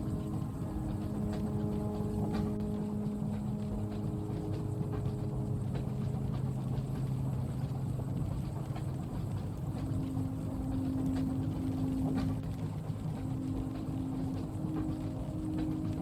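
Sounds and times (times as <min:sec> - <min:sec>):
droning hum: 0:00.0 - 0:16.0
light rain ticking on window: 0:00.0 - 0:16.0
train carriage rumble: 0:00.0 - 0:16.0.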